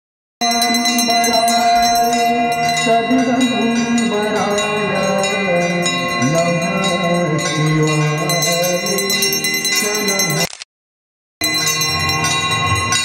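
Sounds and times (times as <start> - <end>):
bells ringing: 0.4 - 10.5, 11.4 - 13.0.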